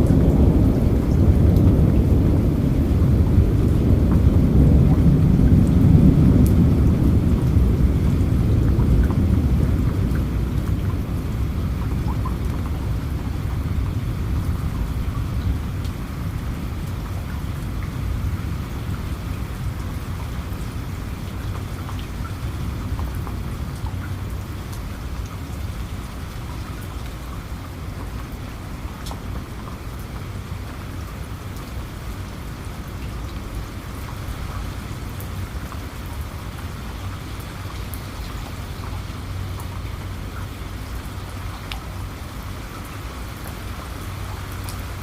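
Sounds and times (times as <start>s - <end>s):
continuous low rumble: 0.0s - 45.0s
steady rain: 0.0s - 45.0s.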